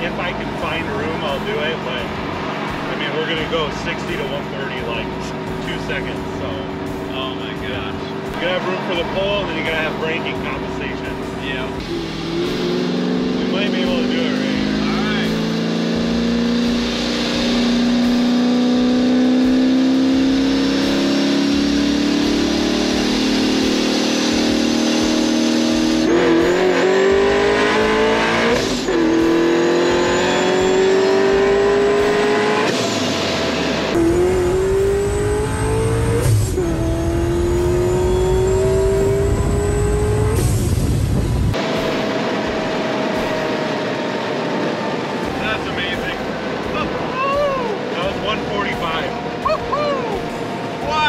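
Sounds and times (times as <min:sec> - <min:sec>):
car engine accelerating: 0:00.0 - 0:51.0
supercharger whine: 0:00.0 - 0:51.0.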